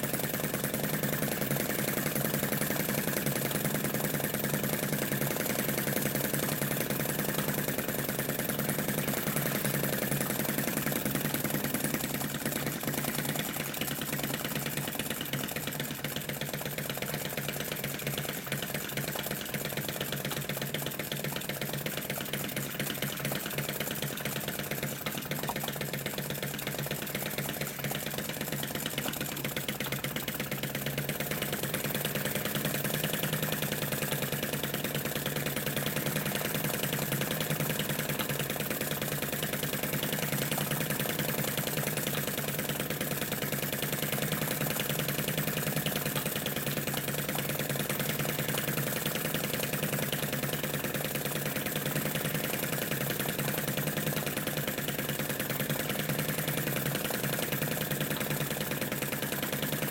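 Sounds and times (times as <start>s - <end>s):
model engine clattering: 0.0s - 59.9s.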